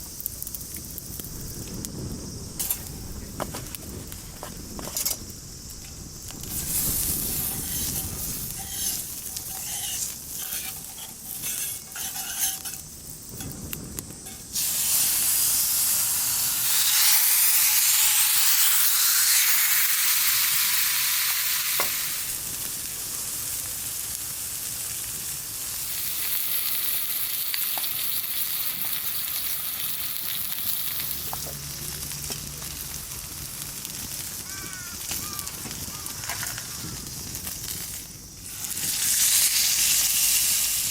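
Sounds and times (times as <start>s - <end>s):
meat sizzling in a pan: 0.0s - 40.9s.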